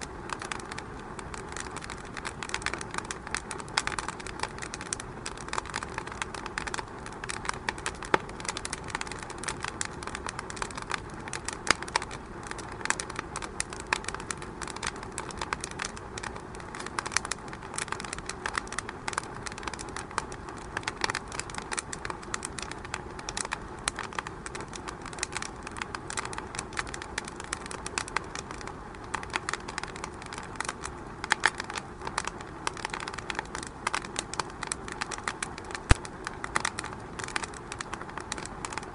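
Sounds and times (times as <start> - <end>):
low hiss: 0.0 - 38.9
wood fire crackling: 0.0 - 38.9.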